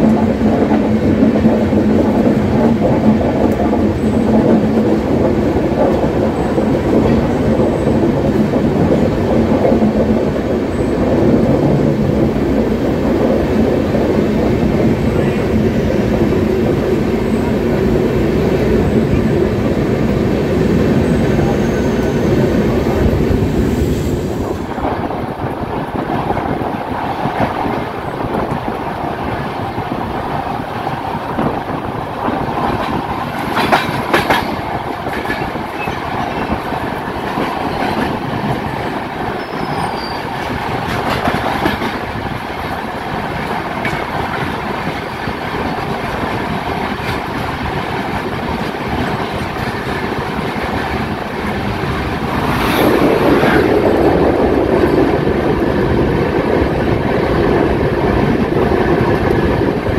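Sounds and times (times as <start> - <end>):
wheels clickety-clack: 0.0 - 19.6, 24.3 - 59.9
rush of wind: 0.0 - 59.9
steel wheels on rail: 0.0 - 59.9.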